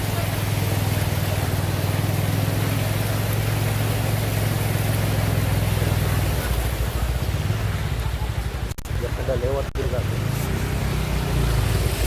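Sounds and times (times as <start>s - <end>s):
road and wind noise: 0.0s - 12.0s
vehicle engine humming: 0.0s - 12.0s.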